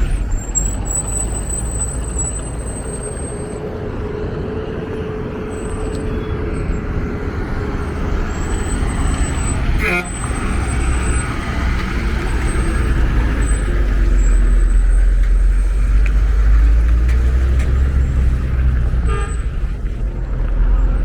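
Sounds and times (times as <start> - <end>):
heavy vehicle engine rumble: 0.0 - 21.0
road traffic: 0.0 - 21.0.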